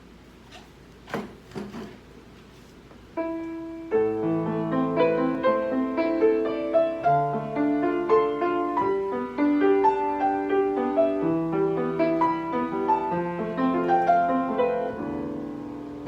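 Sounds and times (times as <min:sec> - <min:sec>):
piano playing: 0:03.1 - 0:16.0.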